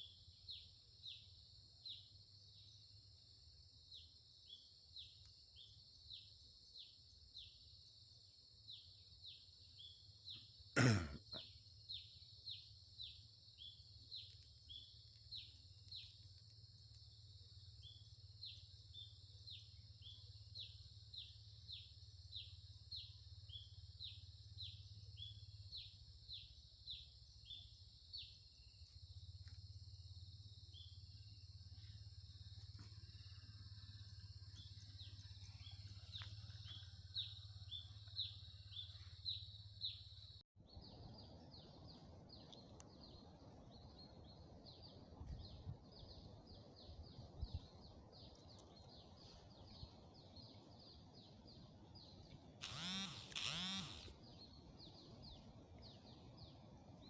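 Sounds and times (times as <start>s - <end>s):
high insect drone: 0.0s - 40.4s, 50.1s - 56.5s.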